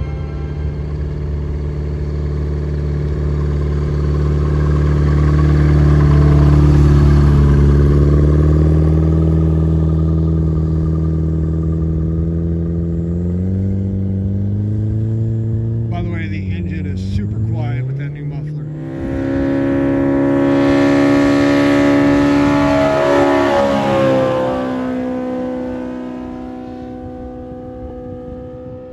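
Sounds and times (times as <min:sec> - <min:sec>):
light aircraft engine flying by: 0:00.0 - 0:28.9.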